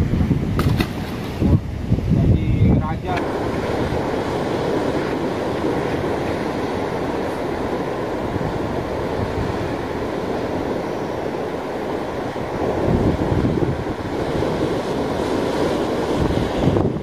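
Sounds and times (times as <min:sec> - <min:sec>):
surf washing against rocks: 0:00.0 - 0:17.0
wind rumbling on microphone: 0:00.0 - 0:17.0.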